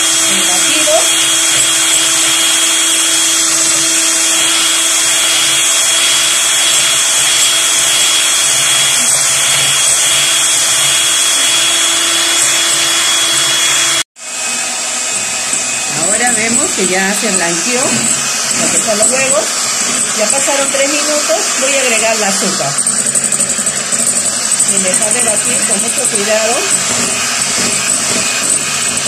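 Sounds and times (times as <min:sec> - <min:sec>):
electric hand mixer whisking: 0:00.0 - 0:29.0.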